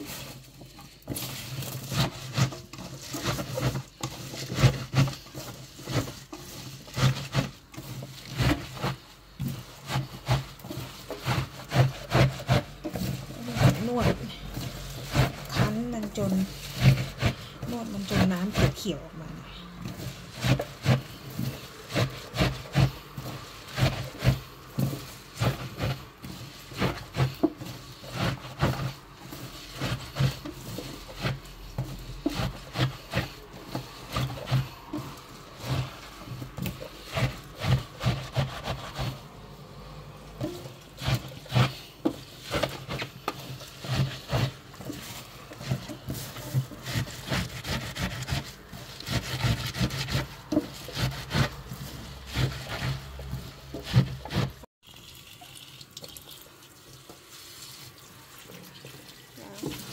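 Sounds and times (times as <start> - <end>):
wet squelching of kneaded greens: 0.0 - 59.9.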